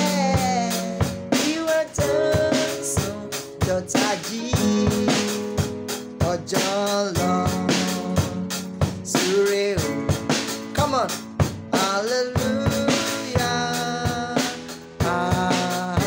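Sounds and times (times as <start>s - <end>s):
drum beat: 0.0s - 16.0s
electronic keyboard chords and melody: 0.0s - 16.0s.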